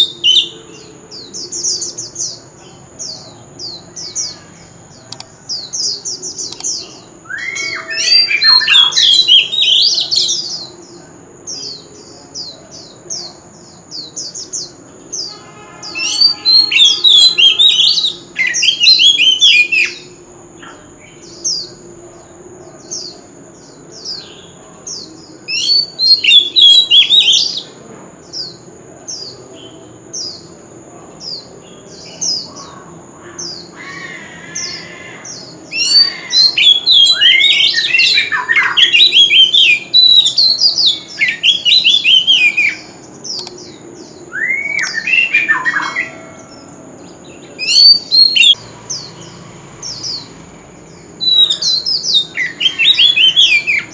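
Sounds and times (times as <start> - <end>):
bird singing: 0.0 - 53.9.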